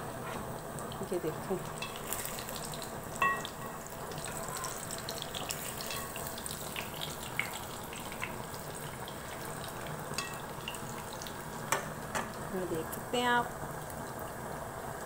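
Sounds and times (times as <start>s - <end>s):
patties sizzling in oil: 0.0s - 15.0s.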